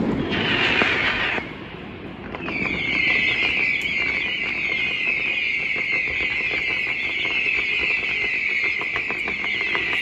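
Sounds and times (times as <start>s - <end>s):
fireworks crackling pops: 0.0s - 10.0s.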